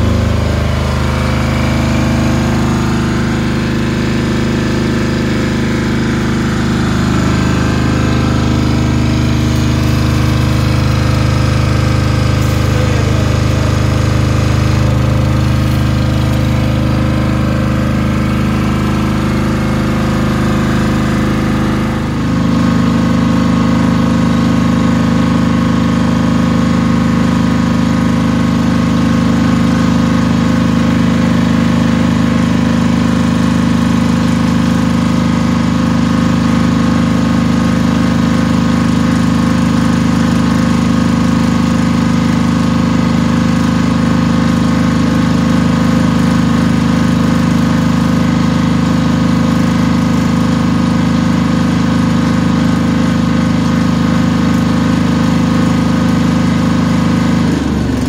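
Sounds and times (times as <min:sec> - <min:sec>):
diesel generator running: 0:00.0 - 0:58.0.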